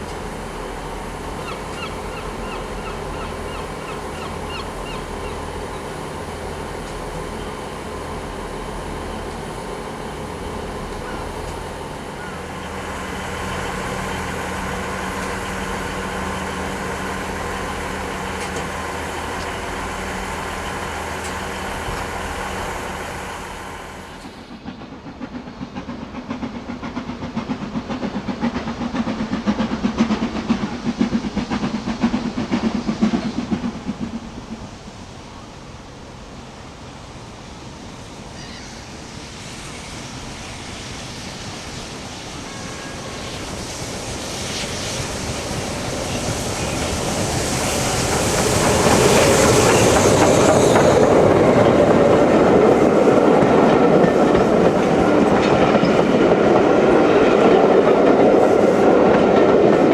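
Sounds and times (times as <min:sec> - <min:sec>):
locomotive engine hum: 0:00.0 - 0:59.9
train passing with rhythmic beats: 0:00.0 - 0:59.9.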